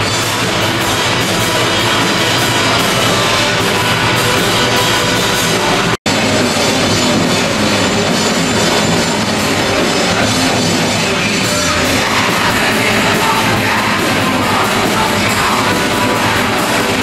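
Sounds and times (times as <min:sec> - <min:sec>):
live heavy metal band: 0:00.0 - 0:17.0.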